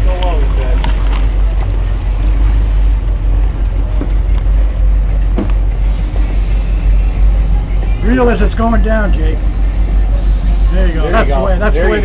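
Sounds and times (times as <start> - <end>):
hiss of wind and water: 0.0 - 12.0
motorboat engine rumbling: 0.0 - 12.0.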